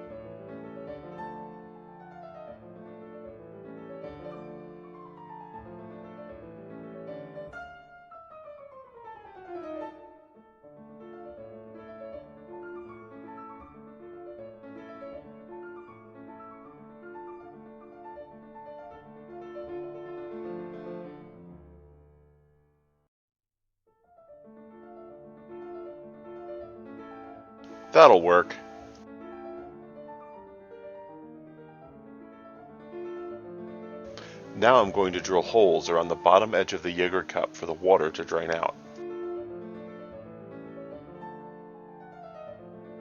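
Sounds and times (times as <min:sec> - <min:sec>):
piano music: 0:00.0 - 0:22.5, 0:24.2 - 0:43.0.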